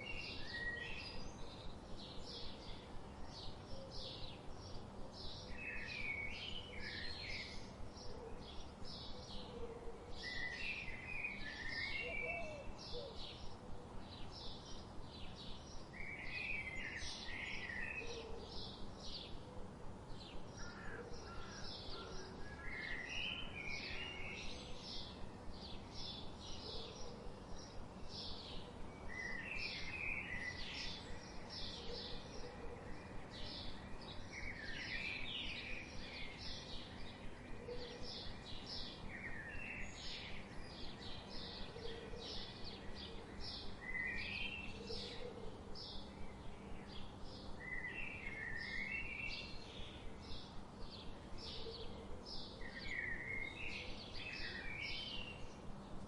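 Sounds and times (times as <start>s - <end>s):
low background hiss: 0.0s - 56.0s.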